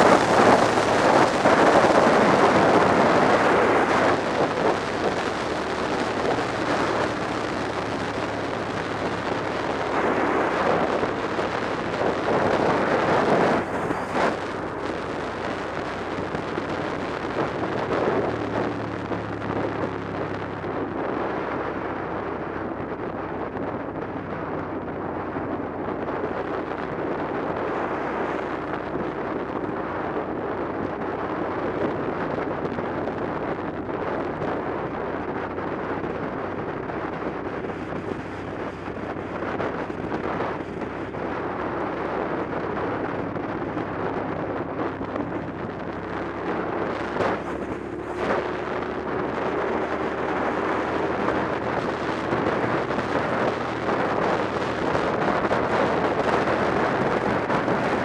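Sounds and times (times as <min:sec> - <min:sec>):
motorcycle engine hum: 0:00.0 - 0:58.0
wind rushing over microphone: 0:00.0 - 0:58.0.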